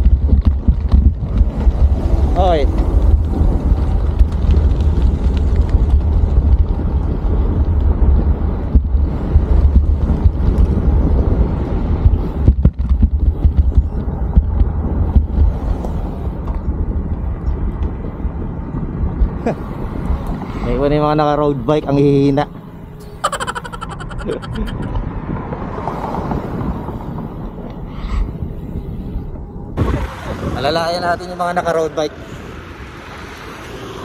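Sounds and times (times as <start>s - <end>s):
wind buffeting microphone: 0.0s - 22.4s, 23.1s - 31.8s
road noise: 0.0s - 34.0s.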